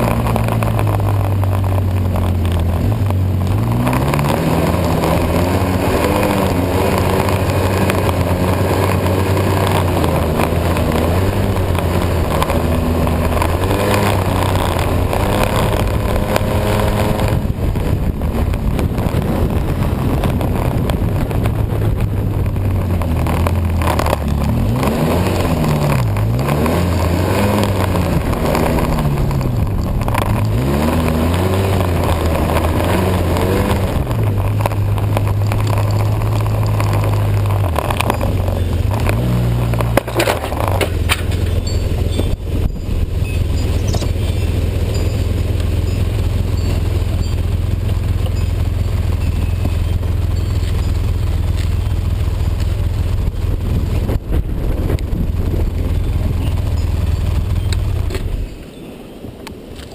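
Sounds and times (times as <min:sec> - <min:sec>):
vehicle engine revving under load: 0:00.0 - 0:58.4.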